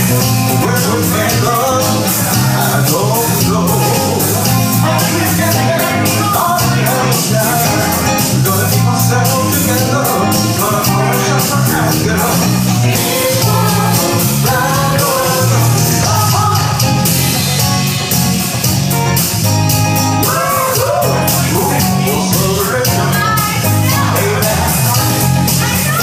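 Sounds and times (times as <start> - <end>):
rock band playing: 0.0 - 26.0
woman singing: 0.6 - 17.1, 20.3 - 26.0.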